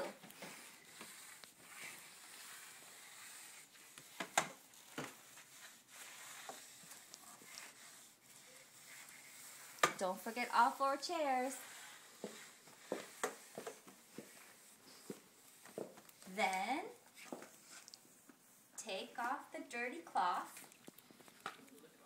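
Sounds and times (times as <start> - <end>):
dry-cloth sweeper swishing on tile: 0.0 - 18.6.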